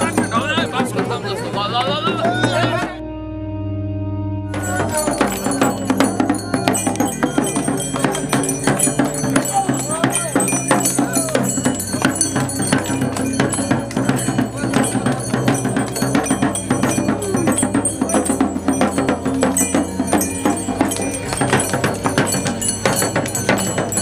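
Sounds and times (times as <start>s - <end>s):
brass bells jingling: 0.0s - 2.8s, 4.5s - 24.0s
steady low tones: 0.0s - 24.0s
frame drum beaten fast: 4.6s - 24.0s.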